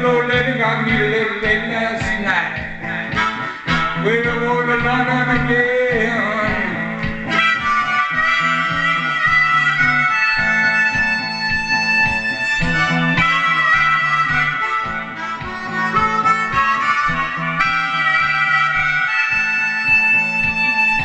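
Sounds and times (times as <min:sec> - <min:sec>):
amplified harmonica: 0:00.0 - 0:21.0
looped backing beat: 0:00.0 - 0:21.0.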